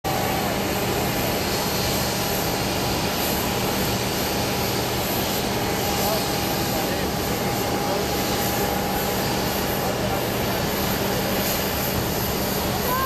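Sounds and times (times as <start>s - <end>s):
jet engines rushing: 0.1s - 13.0s.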